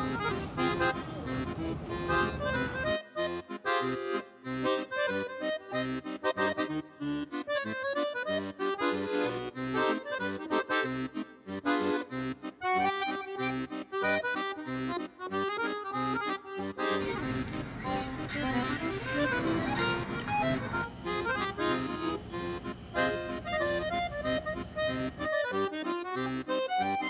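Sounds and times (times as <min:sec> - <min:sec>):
accordion melody: 0:00.0 - 0:27.0.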